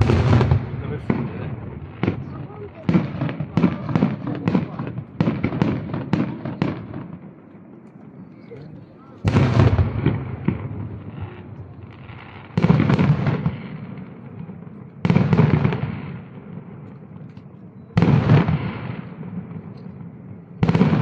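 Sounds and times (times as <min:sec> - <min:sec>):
firework booms crackling: 0:00.0 - 0:08.2, 0:08.9 - 0:17.2, 0:17.9 - 0:21.0.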